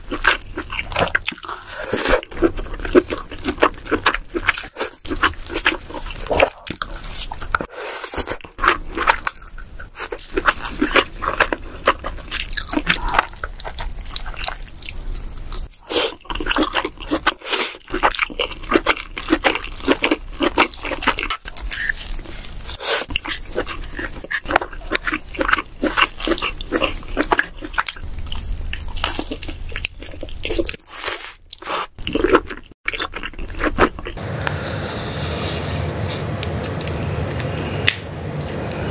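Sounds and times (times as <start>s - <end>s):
chewing and wet mouth sounds: 0.0s - 34.2s, 36.3s - 38.9s.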